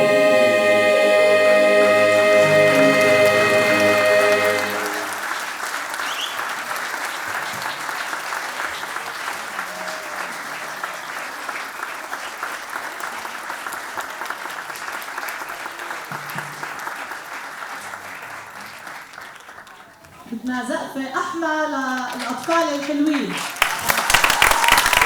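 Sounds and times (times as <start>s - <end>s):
audience applauding: 0.0s - 20.0s, 22.2s - 25.0s.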